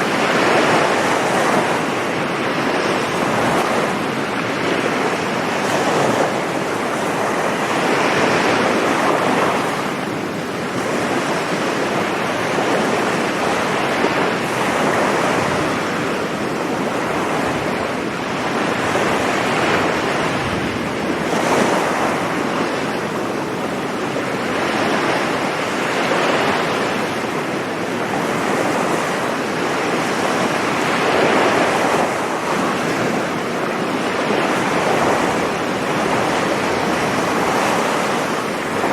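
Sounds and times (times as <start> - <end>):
waves breaking on a beach: 0.0 - 38.9
wind on the microphone: 0.0 - 38.9.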